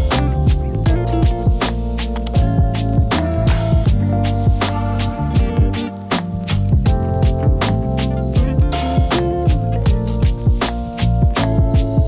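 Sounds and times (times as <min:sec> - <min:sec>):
drum hits: 0:00.0 - 0:12.0
funky background music: 0:00.0 - 0:12.0
sliding bass notes: 0:00.0 - 0:12.0.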